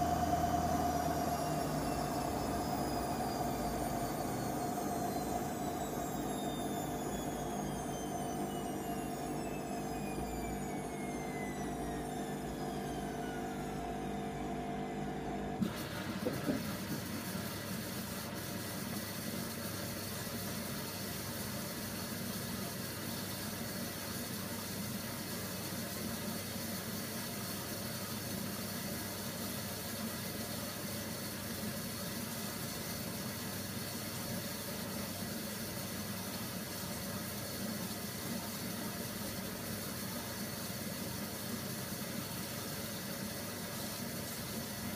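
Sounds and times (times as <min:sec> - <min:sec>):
washing machine low hum: 0:00.0 - 0:44.9
washing machine watery hiss: 0:00.0 - 0:44.9.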